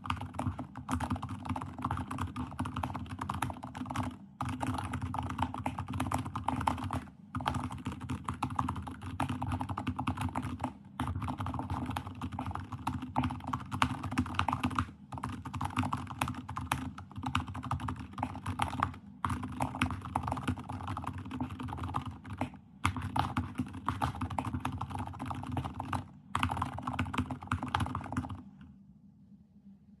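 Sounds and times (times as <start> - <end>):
fast typing on keyboard: 0.0 - 28.6.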